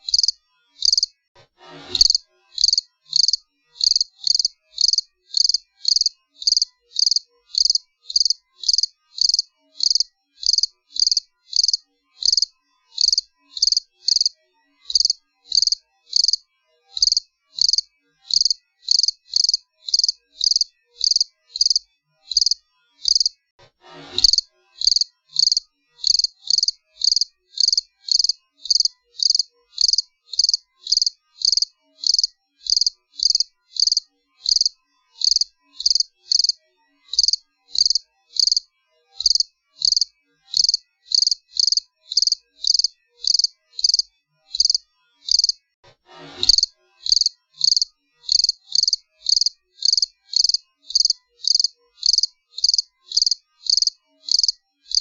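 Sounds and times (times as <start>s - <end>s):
cricket chirping: 0.1s - 1.1s, 2.0s - 14.3s, 14.9s - 16.4s, 17.0s - 23.3s, 24.2s - 38.6s, 39.2s - 45.6s, 46.6s - 55.0s.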